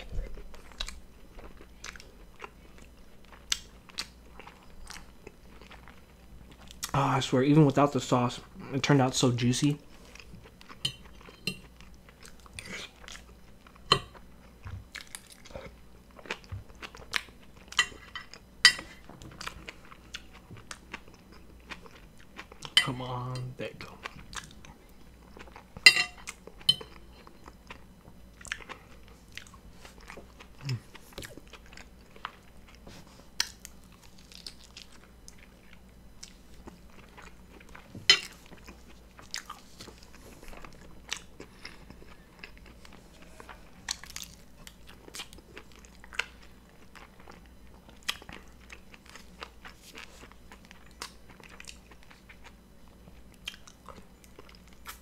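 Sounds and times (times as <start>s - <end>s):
person chewing and biting: 0.0s - 7.0s, 10.0s - 18.5s, 19.3s - 22.8s, 23.8s - 55.0s.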